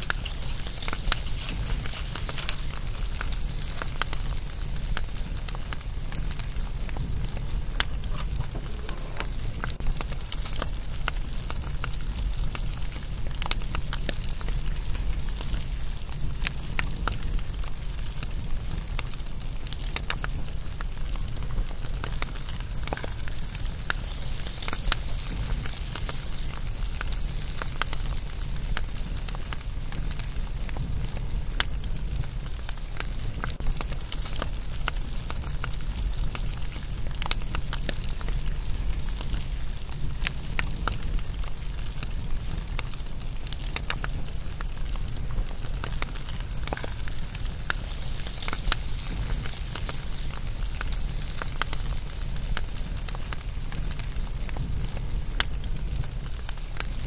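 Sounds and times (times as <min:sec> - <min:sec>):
bonfire crackling and popping: 0:00.0 - 0:57.0
fire low rumble: 0:00.0 - 0:57.0.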